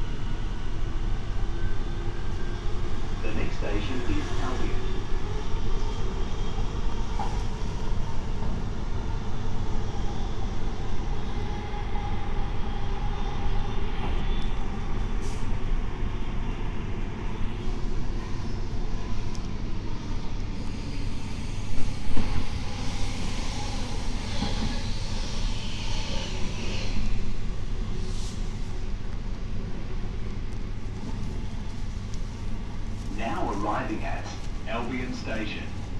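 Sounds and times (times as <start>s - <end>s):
train wheel-on-rail rumble: 0.0s - 35.9s.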